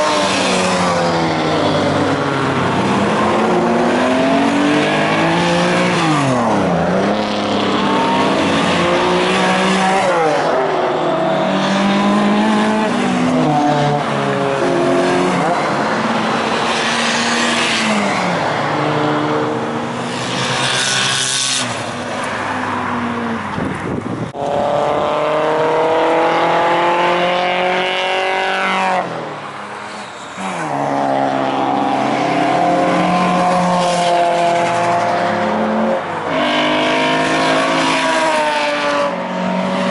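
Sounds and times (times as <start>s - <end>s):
cars driving past revving: 0.0s - 39.9s.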